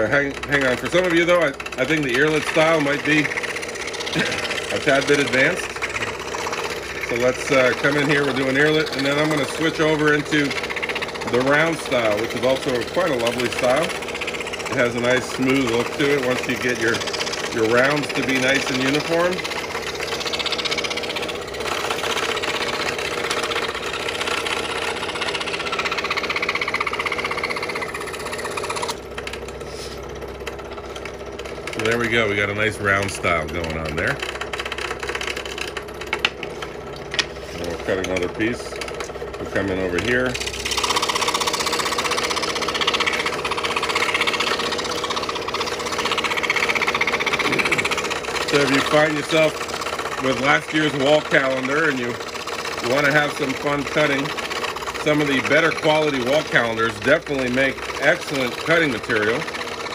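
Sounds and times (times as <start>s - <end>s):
saw motor hum: 0.0s - 59.9s
scroll saw cutting wood: 0.0s - 59.9s.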